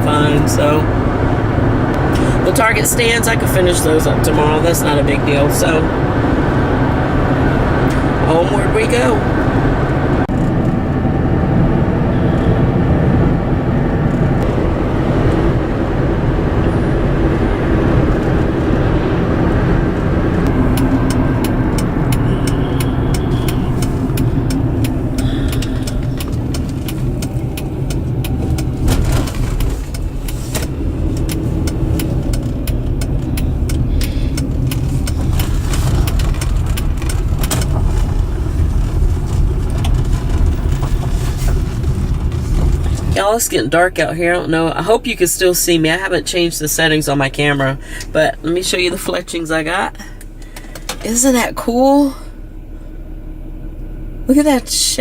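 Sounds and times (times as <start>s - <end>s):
road and engine rumble: 0.0s - 55.0s.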